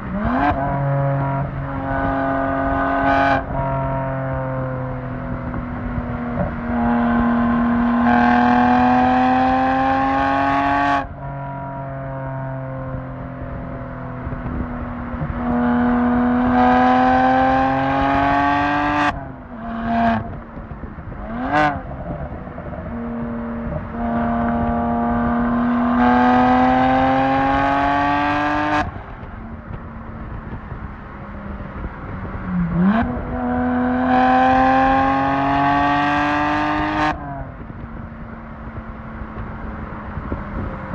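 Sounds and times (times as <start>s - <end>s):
car engine revving under load: 0.0s - 40.9s.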